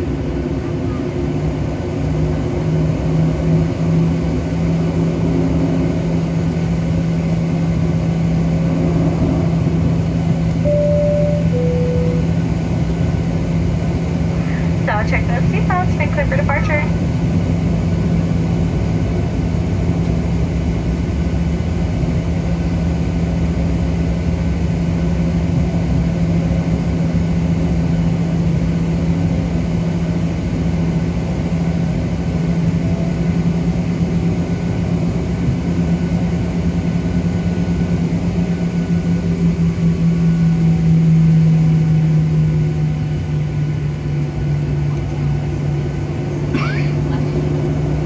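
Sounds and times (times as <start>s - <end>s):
engine hum tone: 0.0s - 48.0s
jet engine drone in cabin: 0.0s - 48.0s.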